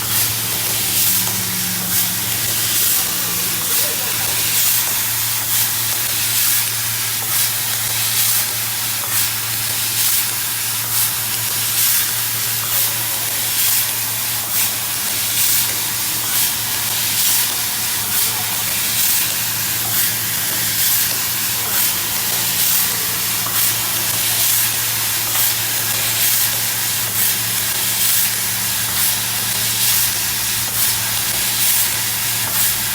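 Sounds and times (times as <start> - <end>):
machine humming and hissing: 0.0 - 32.9.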